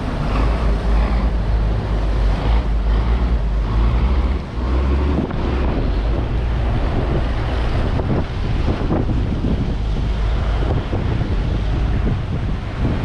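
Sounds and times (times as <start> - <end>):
boat engine rumble: 0.0 - 13.0
water rushing past hull: 0.0 - 13.0
wind buffeting microphone: 0.0 - 13.0.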